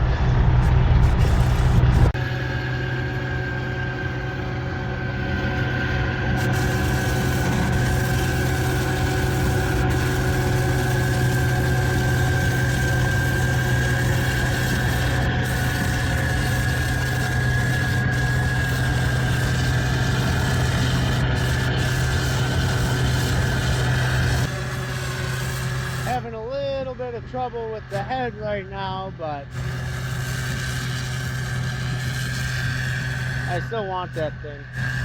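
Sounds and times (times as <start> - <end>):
farm vehicle engine droning: 0.0 - 35.0
high whine: 0.0 - 35.0.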